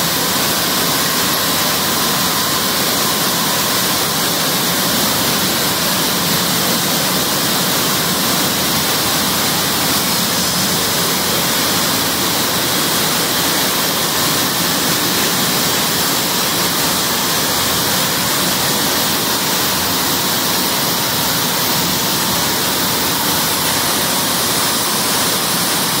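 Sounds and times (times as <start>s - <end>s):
textile mill machinery running: 0.0s - 26.0s.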